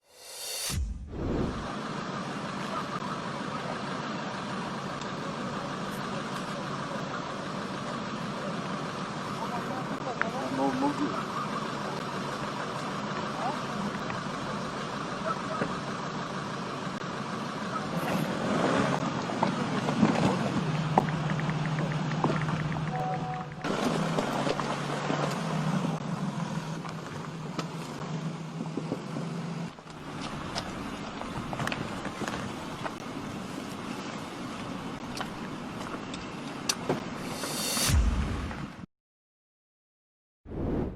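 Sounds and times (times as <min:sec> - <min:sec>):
road traffic noise: 0:00.0 - 0:38.8
vehicle engine running: 0:00.7 - 0:38.7.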